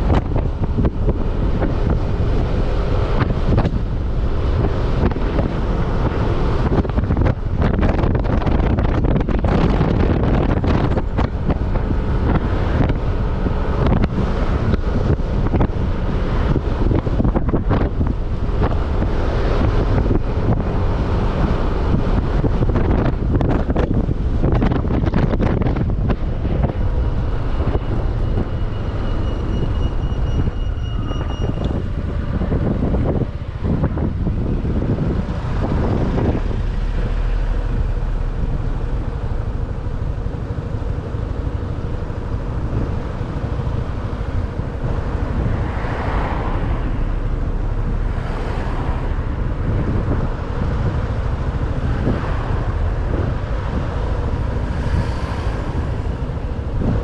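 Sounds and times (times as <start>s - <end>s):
road noise: 0.0s - 57.0s
wind buffeting microphone: 0.0s - 57.0s.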